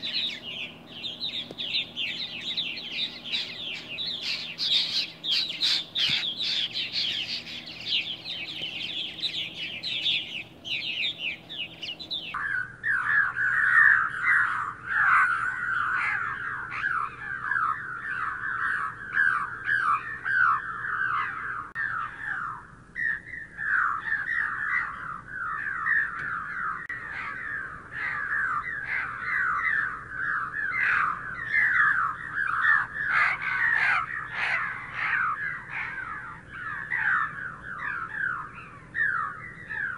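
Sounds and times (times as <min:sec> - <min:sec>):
birds chirping in flight: 0:00.0 - 0:39.9.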